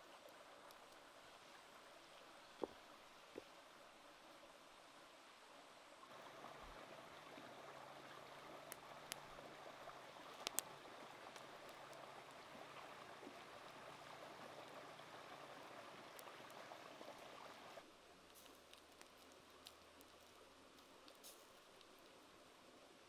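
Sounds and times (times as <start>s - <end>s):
stream running over rocks: 0.0s - 23.0s.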